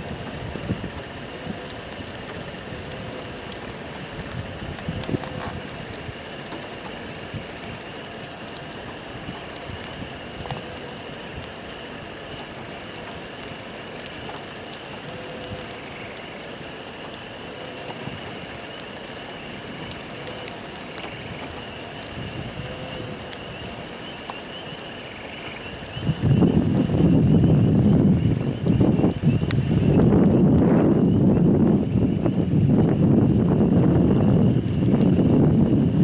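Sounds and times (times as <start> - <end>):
raindrops ticking close: 0.0 - 36.0
steady rain falling: 0.0 - 36.0.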